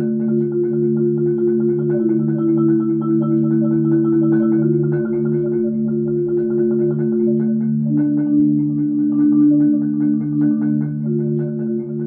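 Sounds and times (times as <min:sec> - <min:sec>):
marimba played with mallets: 0:00.0 - 0:12.0.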